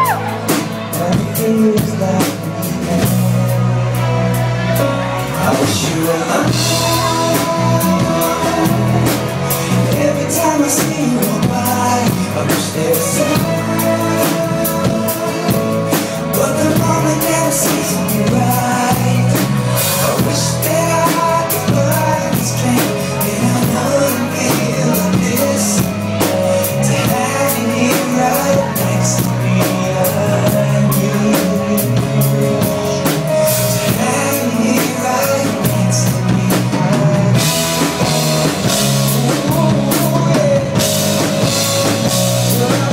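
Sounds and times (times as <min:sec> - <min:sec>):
drum kit beat: 0:00.0 - 0:42.9
live rock-pop band: 0:00.0 - 0:42.9.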